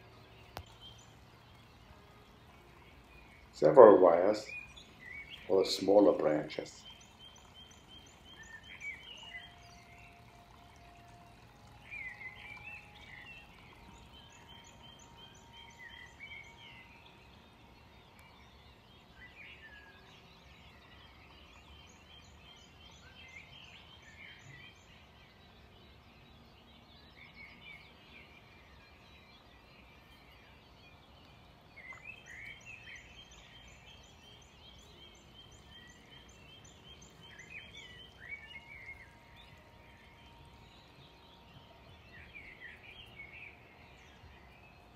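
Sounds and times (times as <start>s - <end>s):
faint birds chirping: 0.0s - 44.9s
low steady background noise: 0.0s - 44.9s.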